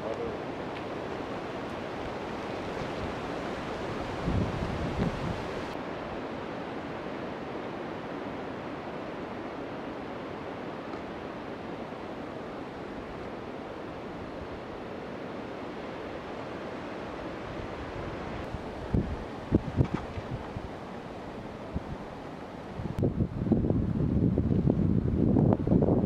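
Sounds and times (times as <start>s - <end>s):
wind rushing through trees: 0.0s - 26.0s.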